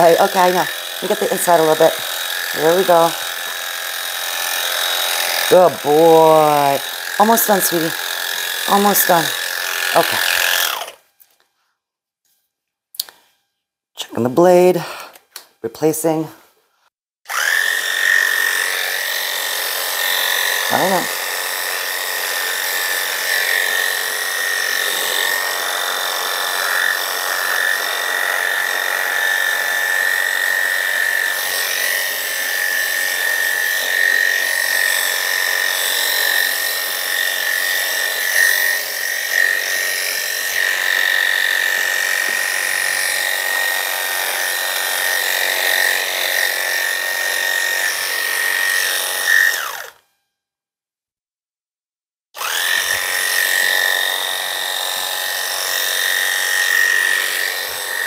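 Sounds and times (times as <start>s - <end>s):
electric clippers whining: 0.0s - 11.5s, 17.3s - 50.2s, 52.4s - 58.0s.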